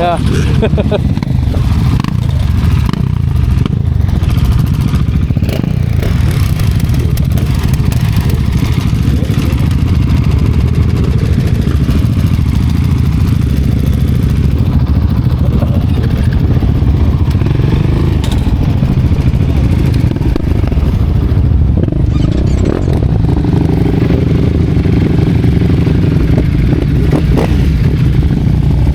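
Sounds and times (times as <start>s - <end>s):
motorcycle engine running: 0.0s - 28.9s
wind rumble on microphone: 0.5s - 28.9s.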